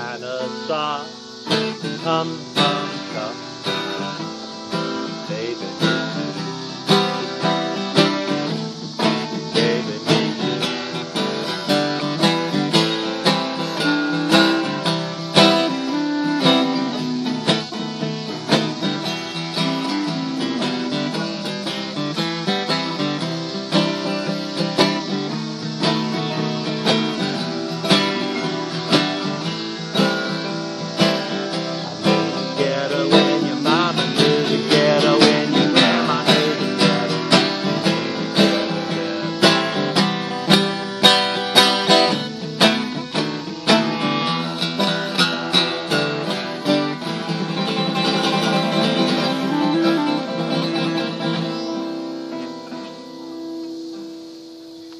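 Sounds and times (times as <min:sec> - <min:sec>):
clarinet melody: 0:00.0 - 0:53.4
acoustic guitar strumming: 0:00.0 - 0:54.9.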